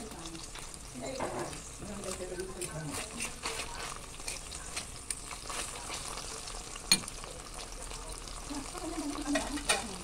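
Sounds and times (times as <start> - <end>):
liver sizzling in oil: 0.0 - 10.0.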